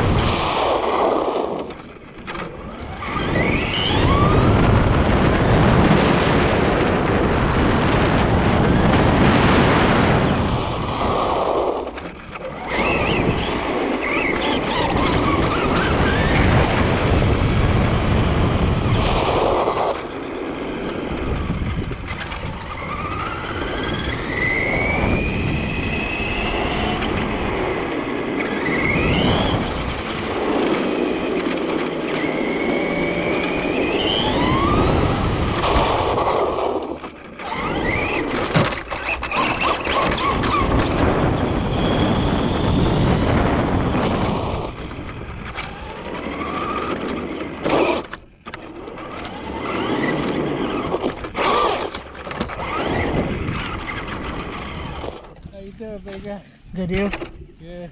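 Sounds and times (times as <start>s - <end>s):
rc truck drivetrain whine: 0.0s - 57.5s
tyre and wind noise: 0.0s - 57.9s.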